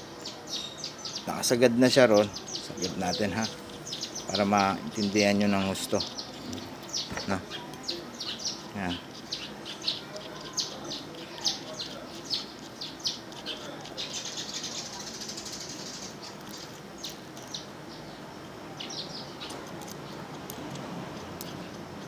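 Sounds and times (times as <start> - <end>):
buzzy bird trill: 0.0 - 18.2
small birds chirping: 0.0 - 22.0.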